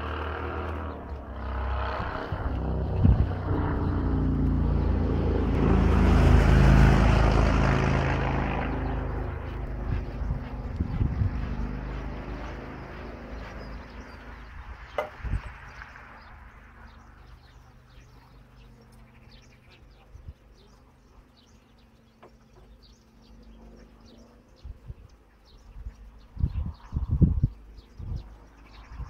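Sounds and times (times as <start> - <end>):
honeybees humming: 0.0 - 29.0
propeller plane engine drone: 0.0 - 29.0
small birds chirping: 0.0 - 29.0.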